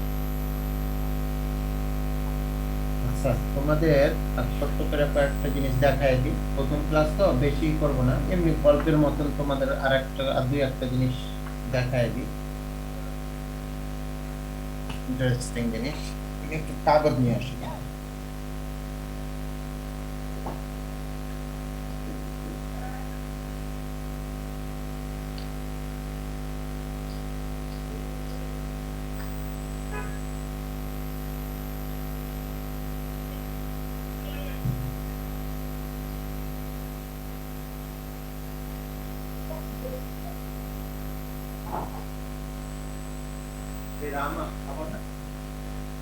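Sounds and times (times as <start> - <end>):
electrical mains hum: 0.0 - 46.0.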